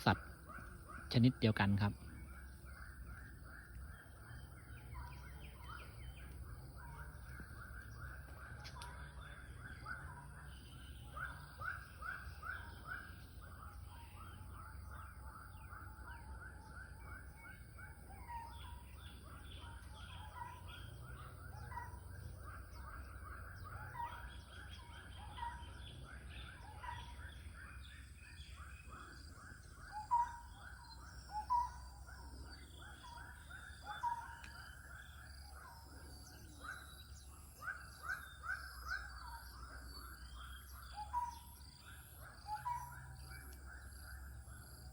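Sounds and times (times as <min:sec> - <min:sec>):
birds calling: 0:00.0 - 0:44.9.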